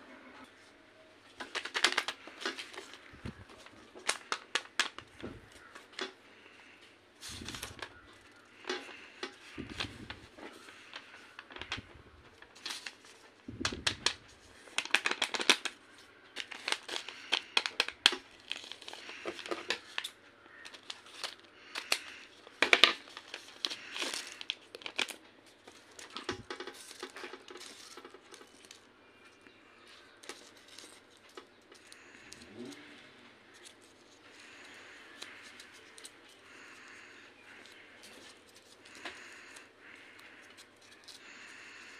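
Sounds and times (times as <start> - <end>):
paper rustling and crinkling: 1.4 - 29.2, 29.8 - 32.9, 33.5 - 41.8.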